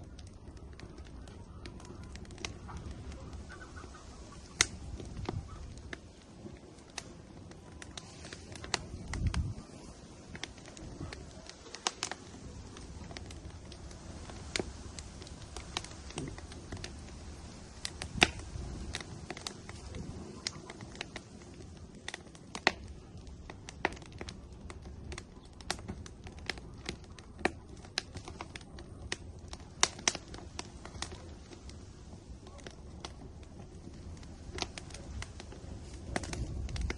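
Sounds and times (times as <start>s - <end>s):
firewood crackling and popping: 0.0s - 36.9s
low rumble of fire: 0.0s - 36.9s.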